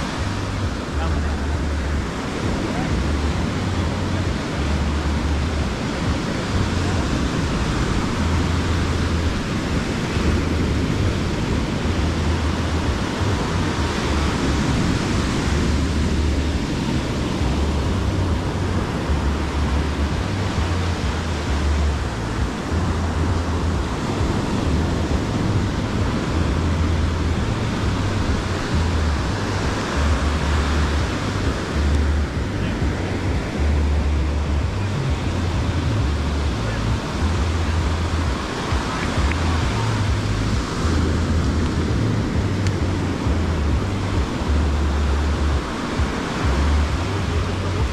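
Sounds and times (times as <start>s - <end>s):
surf washing up shore: 0.0s - 47.9s
wind buffeting microphone: 0.0s - 47.9s.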